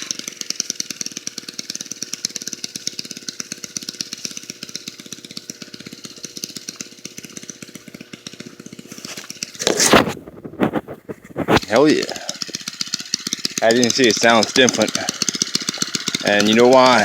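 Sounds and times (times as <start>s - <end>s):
small engine popping: 0.0s - 17.0s.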